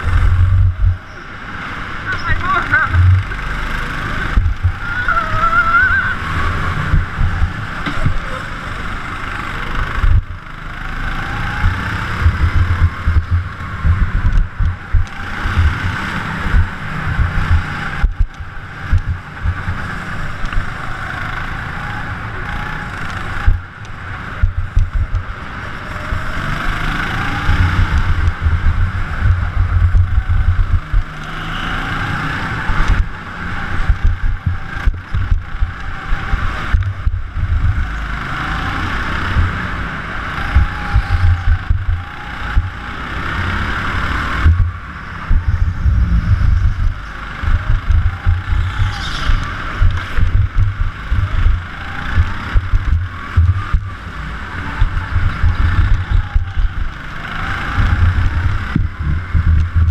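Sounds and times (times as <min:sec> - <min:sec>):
wind buffeting microphone: 0:00.0 - 0:01.1, 0:02.3 - 0:08.9, 0:11.3 - 0:20.8, 0:23.2 - 0:31.2, 0:32.4 - 0:43.5, 0:44.3 - 0:59.9
go-kart engine revving: 0:00.0 - 0:59.9.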